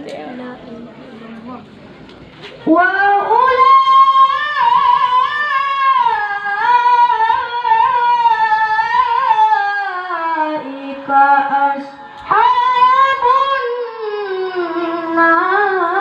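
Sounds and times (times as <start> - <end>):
child chanting: 2.6 - 16.0.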